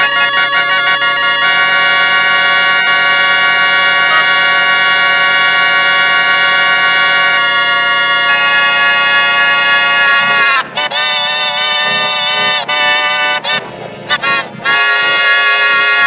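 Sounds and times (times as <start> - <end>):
stretched horn-like drone: 0.0 - 16.0.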